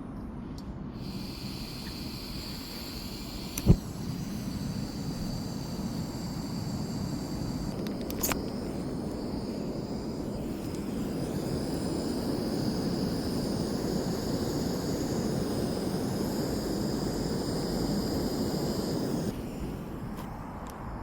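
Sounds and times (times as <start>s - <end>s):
gas stove burner roaring: 1.0s - 21.0s.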